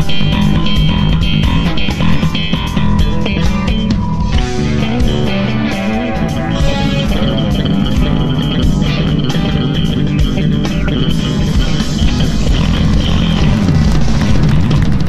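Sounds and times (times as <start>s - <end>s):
bass guitar: 0.0s - 15.0s
drums: 0.0s - 15.0s
lead electric guitar: 0.0s - 15.0s.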